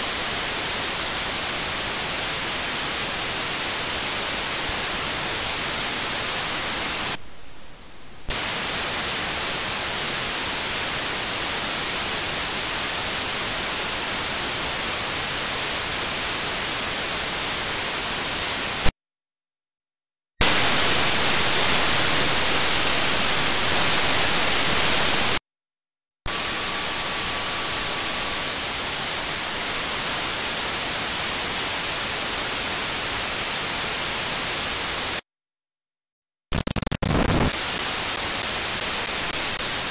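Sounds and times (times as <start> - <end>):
radio static hiss: 0.0 - 18.9, 20.4 - 25.4, 26.3 - 35.2, 36.5 - 39.9.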